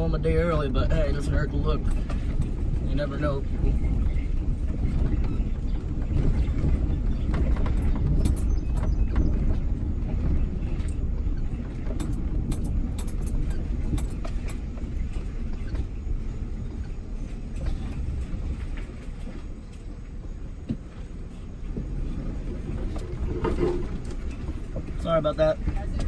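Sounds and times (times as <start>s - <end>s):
truck engine and road rumble: 0.0s - 26.0s
rattles and clicks: 0.4s - 26.0s.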